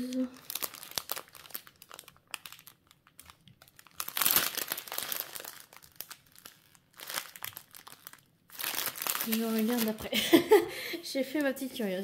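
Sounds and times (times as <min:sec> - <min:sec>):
plastic packaging crinkling: 0:00.0 - 0:10.2, 0:11.2 - 0:12.0.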